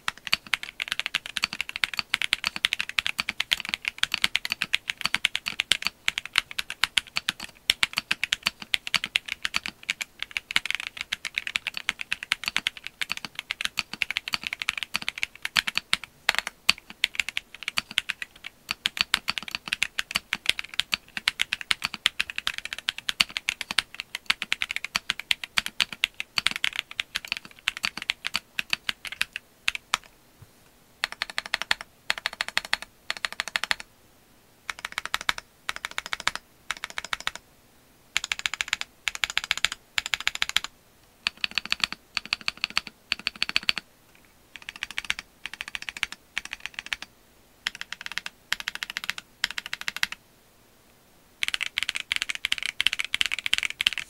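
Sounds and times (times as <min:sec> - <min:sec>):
fast mechanical keyboard typing: 0:00.0 - 0:30.1, 0:31.0 - 0:33.9, 0:34.7 - 0:37.4, 0:38.2 - 0:43.8, 0:44.5 - 0:50.2, 0:51.4 - 0:54.0.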